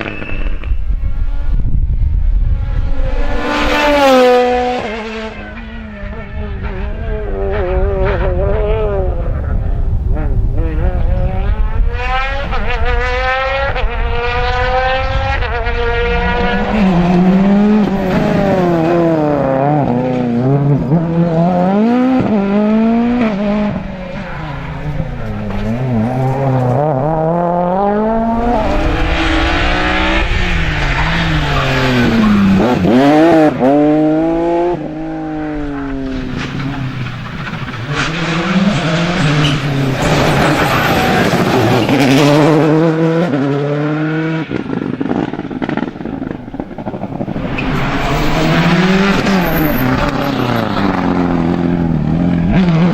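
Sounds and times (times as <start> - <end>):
rally car engines revving hard: 0.0 - 52.9.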